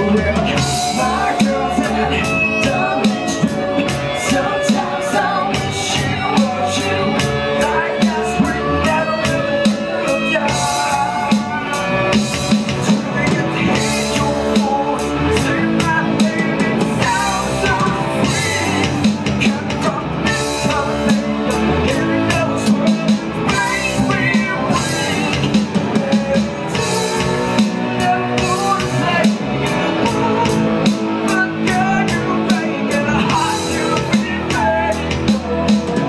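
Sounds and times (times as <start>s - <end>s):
drum kit beat: 0.0s - 36.0s
live rock band playing: 0.0s - 36.0s
people singing into microphones: 0.0s - 36.0s.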